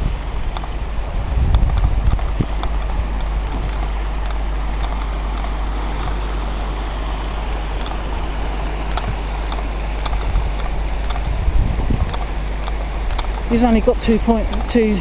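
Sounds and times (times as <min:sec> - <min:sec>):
low rumble: 0:00.0 - 0:15.0
white water rushing: 0:00.0 - 0:15.0.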